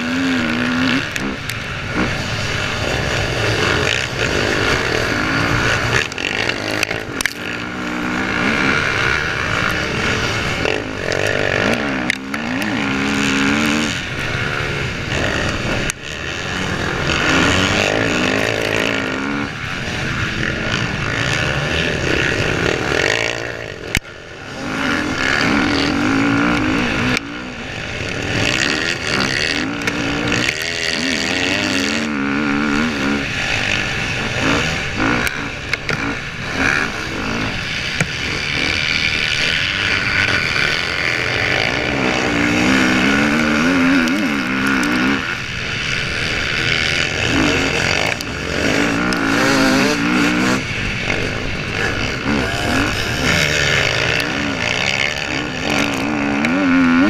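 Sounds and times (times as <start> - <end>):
dirt bike engine revving: 0.0 - 57.0
heavy wind noise: 0.0 - 57.0
other dirt bikes running: 0.0 - 57.0.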